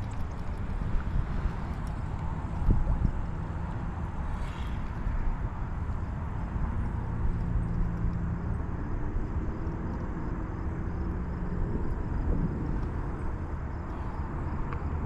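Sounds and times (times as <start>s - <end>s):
low riverside ambience rumble: 0.0s - 15.0s.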